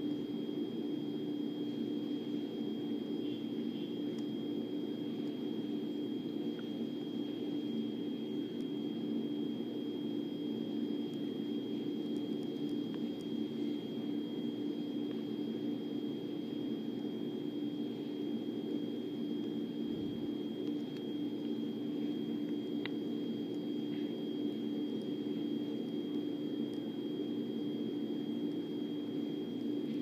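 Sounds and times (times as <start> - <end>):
faint high whine: 0.0 - 30.0
low droning hum: 0.0 - 30.0.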